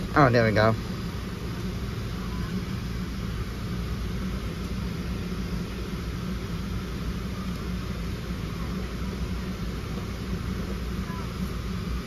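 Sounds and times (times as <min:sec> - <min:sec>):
aircraft cabin drone: 0:00.0 - 0:12.0.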